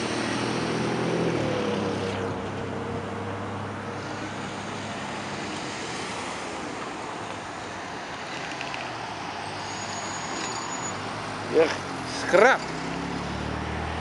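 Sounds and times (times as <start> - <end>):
cars passing at low speed: 0.0 - 14.0.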